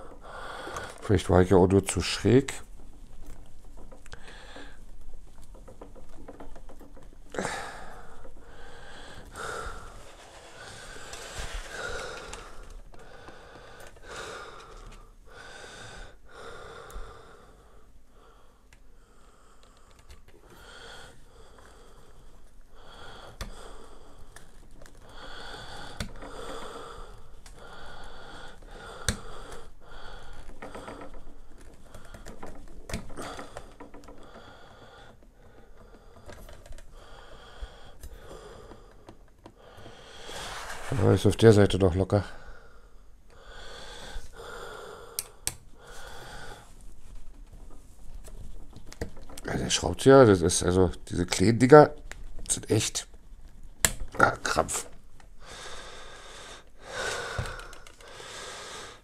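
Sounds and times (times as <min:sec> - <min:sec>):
person breathing: 0:00.0 - 0:51.1, 0:53.8 - 0:59.0.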